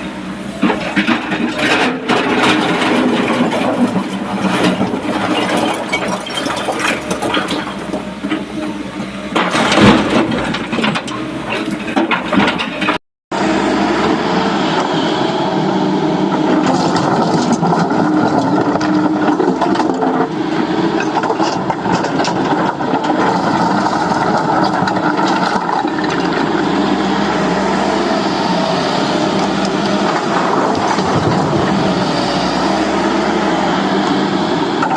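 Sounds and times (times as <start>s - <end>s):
heavy diesel machinery running: 0.0s - 34.9s.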